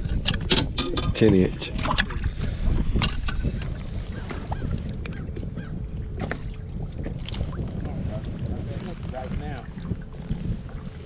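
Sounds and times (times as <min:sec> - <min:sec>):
gusty wind on microphone: 0:00.0 - 0:11.0.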